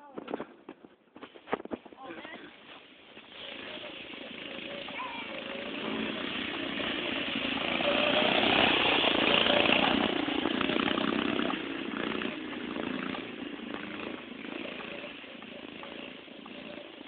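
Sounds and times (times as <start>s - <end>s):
minibike engine passing: 2.9s - 17.0s.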